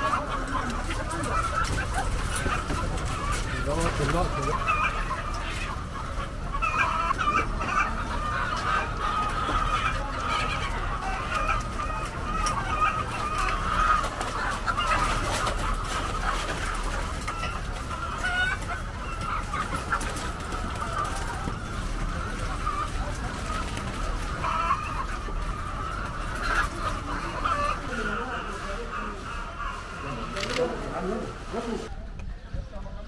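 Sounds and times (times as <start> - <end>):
hens clucking: 0.0 - 33.0.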